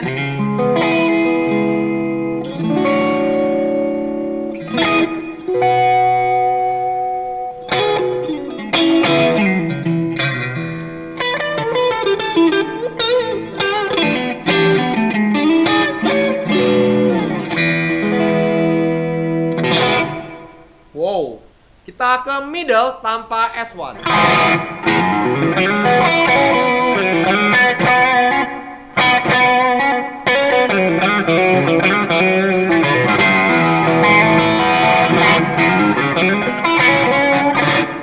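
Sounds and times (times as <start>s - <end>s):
electric guitar playing: 0.0s - 20.9s, 24.0s - 38.0s.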